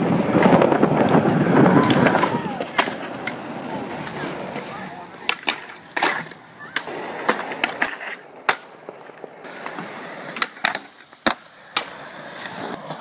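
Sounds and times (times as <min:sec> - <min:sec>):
skateboard clacking on ground: 0:00.0 - 0:13.0
skateboard wheels rolling on concrete: 0:00.0 - 0:13.0.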